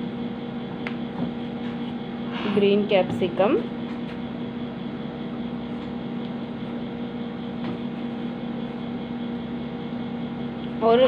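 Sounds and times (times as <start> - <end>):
appliance humming: 0.0 - 11.0.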